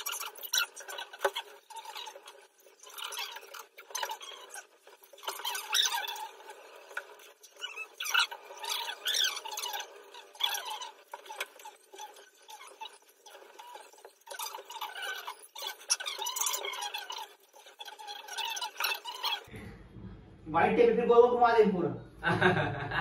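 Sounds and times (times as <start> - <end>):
tape squeaking off roll: 0.0 - 19.5.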